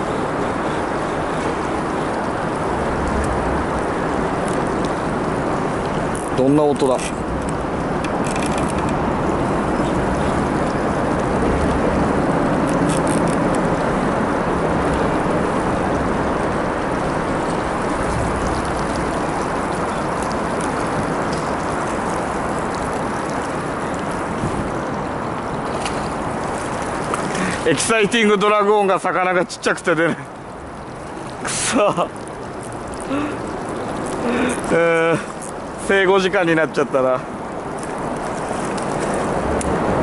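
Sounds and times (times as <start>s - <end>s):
boat wash and hum: 0.0s - 40.0s.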